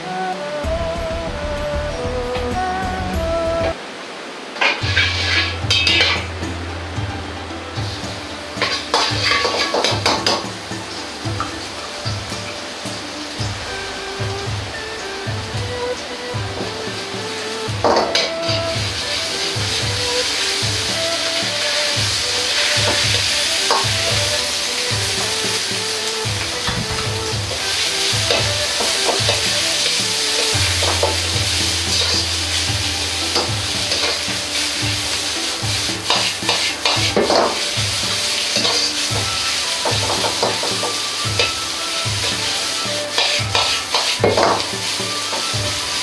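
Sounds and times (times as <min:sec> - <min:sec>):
bamboo shoots sizzling in oil: 0:04.5 - 0:46.0
metal ladle scraping wok: 0:04.6 - 0:46.0.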